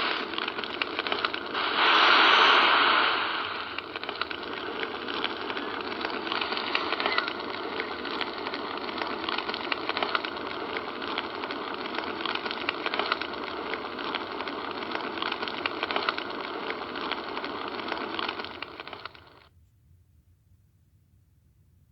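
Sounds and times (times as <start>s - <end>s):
crackling hiss with clicks: 0.0s - 19.5s.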